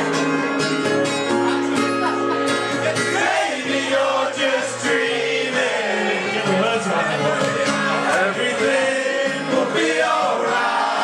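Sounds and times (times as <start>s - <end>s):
amplified guitar: 0.0s - 11.0s.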